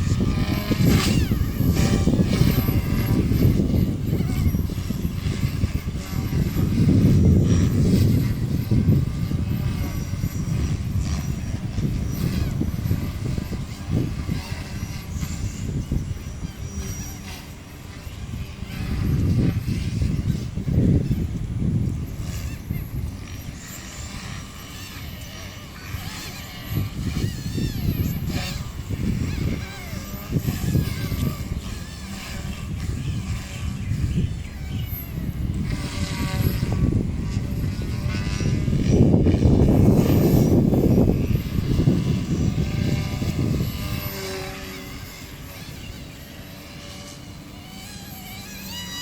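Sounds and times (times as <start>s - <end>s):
faint wavering squeals: 0.0s - 49.0s.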